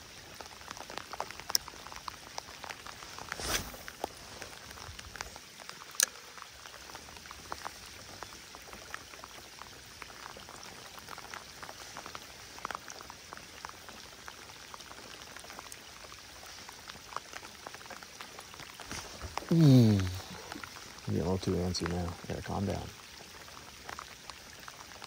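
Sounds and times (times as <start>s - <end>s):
rain falling on water: 0.0s - 25.0s.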